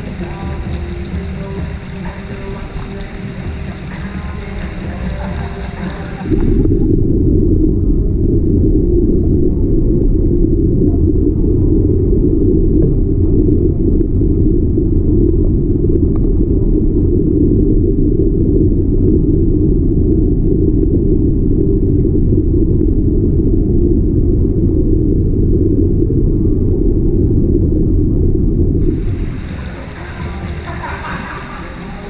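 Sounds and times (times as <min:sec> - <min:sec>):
loud low rumble: 0:00.0 - 0:32.0.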